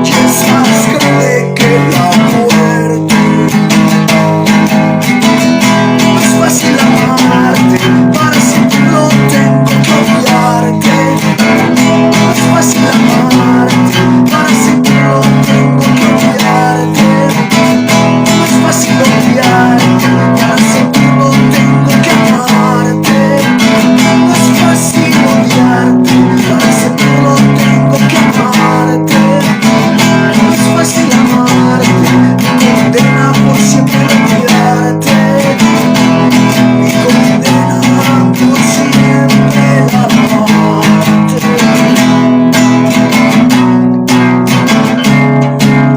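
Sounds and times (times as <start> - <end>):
guitar-led instrumental music: 0.0 - 45.9.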